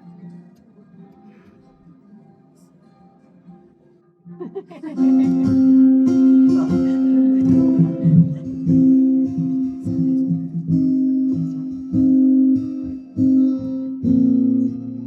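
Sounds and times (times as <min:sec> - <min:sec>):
guitar: 0:00.0 - 0:15.0.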